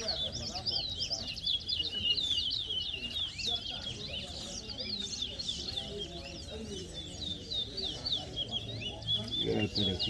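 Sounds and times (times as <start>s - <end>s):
low crowd chatter: 0.0s - 10.0s
songbirds chirping: 0.0s - 10.0s.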